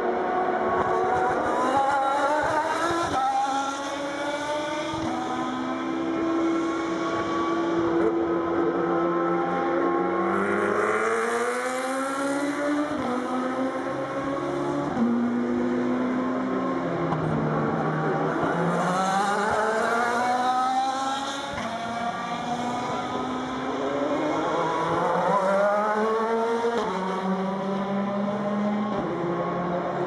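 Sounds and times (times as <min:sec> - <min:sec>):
race cars accelerating: 0:00.0 - 0:30.0.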